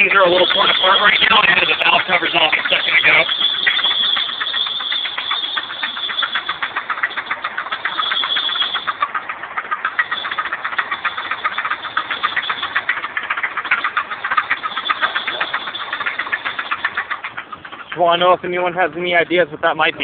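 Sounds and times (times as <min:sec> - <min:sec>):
car engine ticking clatter: 0:00.0 - 0:20.0
high-pitched belt squeal: 0:00.0 - 0:20.0.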